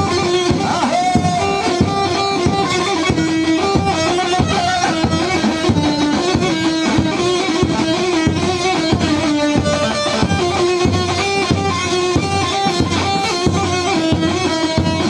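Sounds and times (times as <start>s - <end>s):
amplified plucked string melody: 0.0s - 15.0s
steady drum beat: 0.0s - 15.0s.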